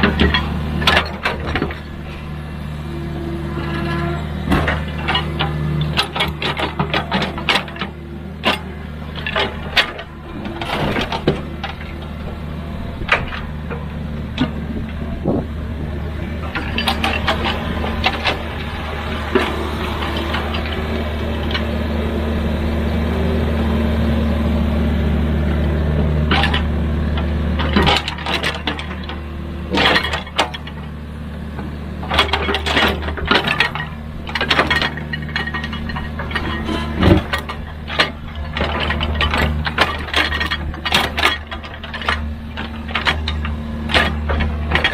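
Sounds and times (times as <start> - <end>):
excavator bucket clanking: 0.0 - 23.0, 25.6 - 44.9
excavator diesel engine running: 0.0 - 44.9.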